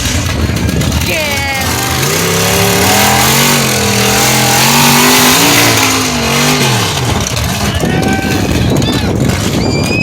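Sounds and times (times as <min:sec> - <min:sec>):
steady rush of noise: 0:00.0 - 0:10.0
truck engine revving: 0:00.0 - 0:10.0.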